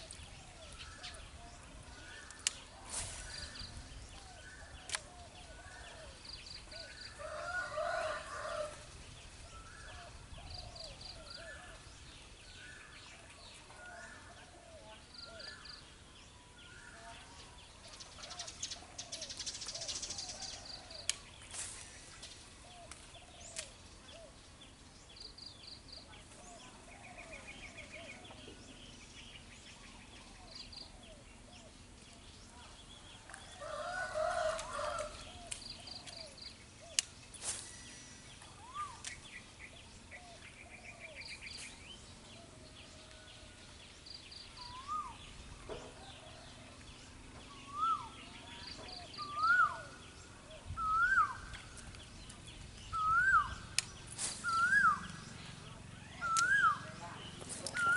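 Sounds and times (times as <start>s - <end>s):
birds calling: 0.0s - 57.9s.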